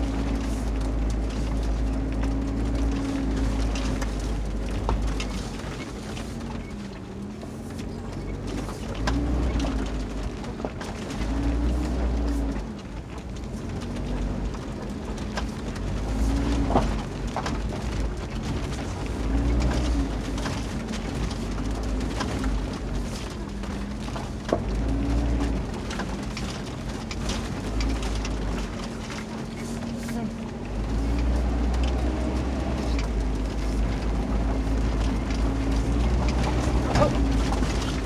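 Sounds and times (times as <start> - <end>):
car engine hum: 0.0 - 38.0
knocks and rattles: 0.0 - 38.0
tyres rumbling on rough ground: 0.0 - 38.0.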